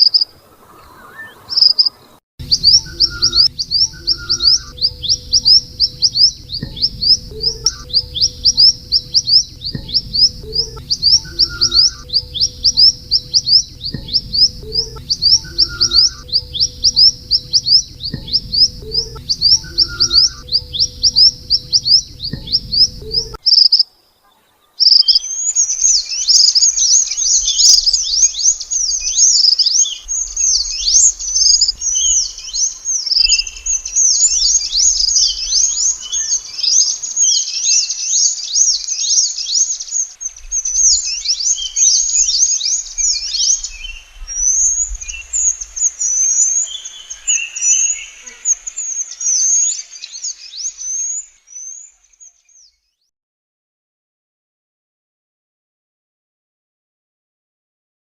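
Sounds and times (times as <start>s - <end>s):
birds chirping high and thin: 0.0s - 52.8s.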